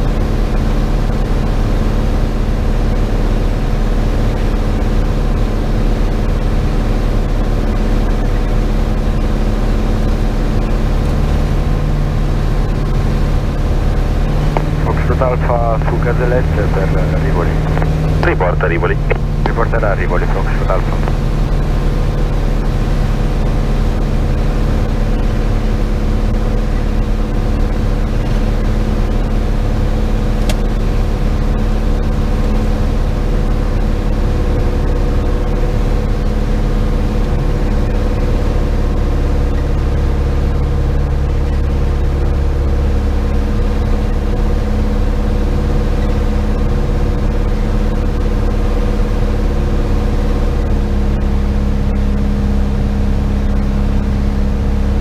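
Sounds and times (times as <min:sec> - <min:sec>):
propeller aircraft engine running: 0:00.0 - 0:55.0.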